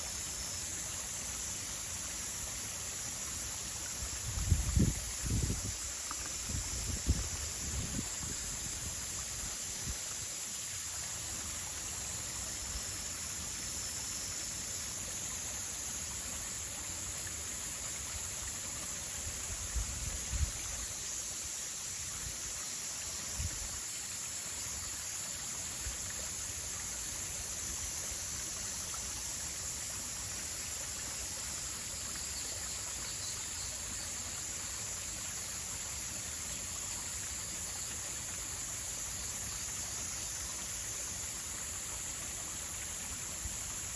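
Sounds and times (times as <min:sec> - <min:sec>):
high-pitched hiss: 0:00.0 - 0:43.9
running water: 0:00.0 - 0:43.9.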